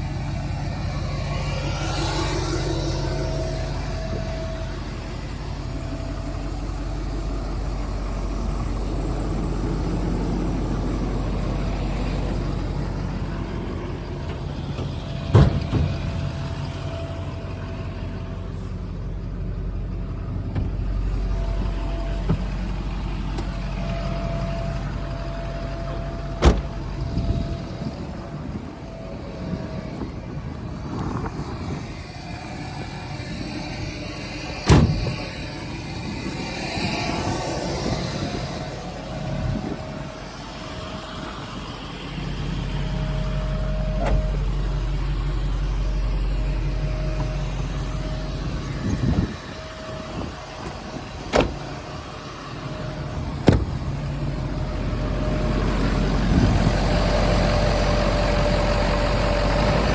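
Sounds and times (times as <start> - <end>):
faint engine whine: 0.0 - 59.9
truck engine running: 0.0 - 59.9.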